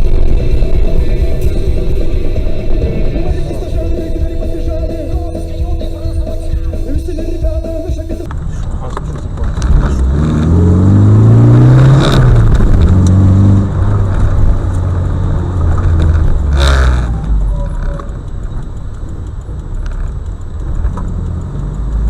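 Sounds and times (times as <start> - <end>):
vehicle engine accelerating: 0.0 - 22.0.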